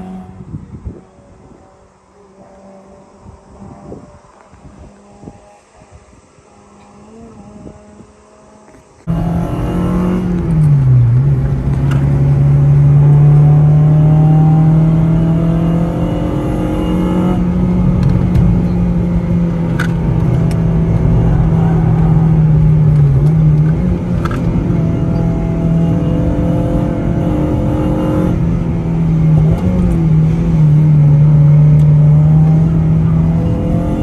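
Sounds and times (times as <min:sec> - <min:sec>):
car engine running hard: 0:00.0 - 0:34.0.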